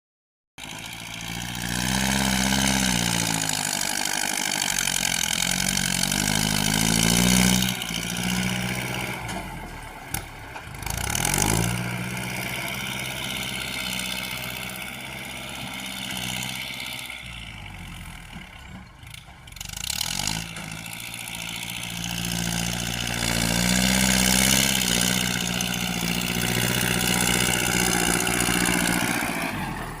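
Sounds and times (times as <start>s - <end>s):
heavy machinery diesel engine revving: 0.6s - 30.0s.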